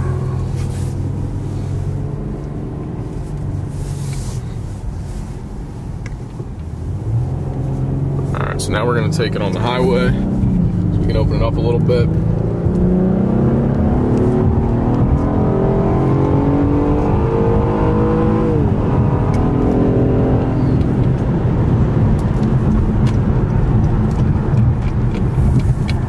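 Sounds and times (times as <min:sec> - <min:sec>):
car engine accelerating hard: 0:00.0 - 0:04.3, 0:06.8 - 0:26.0
road noise: 0:00.0 - 0:26.0.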